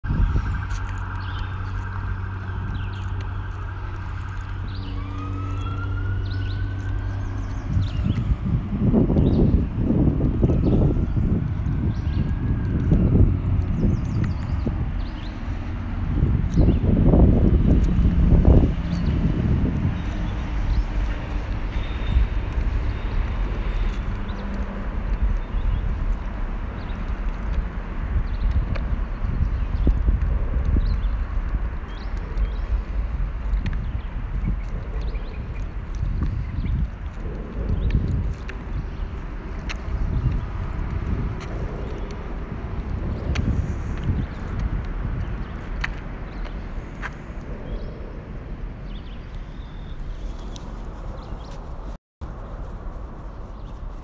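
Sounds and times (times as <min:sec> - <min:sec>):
traffic hum: 0:00.0 - 0:54.0.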